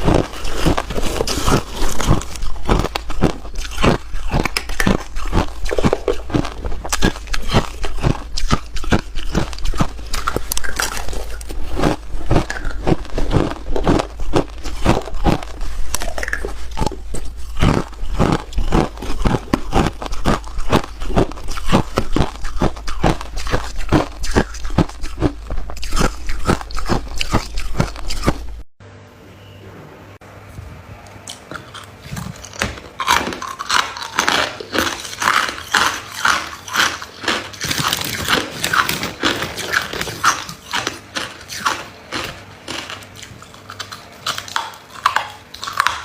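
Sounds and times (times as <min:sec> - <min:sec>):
ice being chewed: 0:00.0 - 0:28.6, 0:31.3 - 0:46.0.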